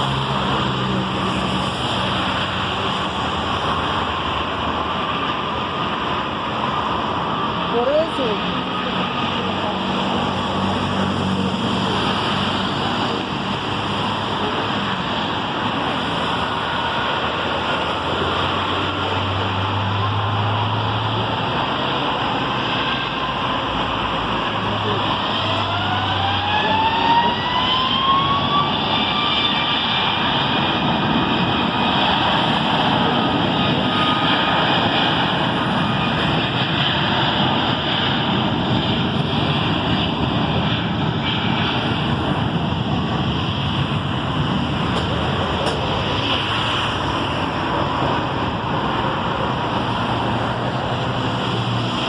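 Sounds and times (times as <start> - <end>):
jet engine whine rising: 0.0 - 52.0
jet noise rushing: 0.0 - 52.0.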